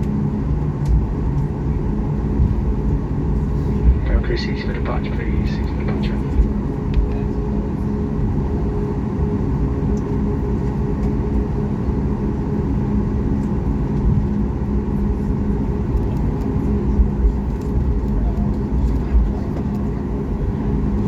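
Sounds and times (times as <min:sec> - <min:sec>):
airplane cabin engine drone: 0:00.0 - 0:21.0.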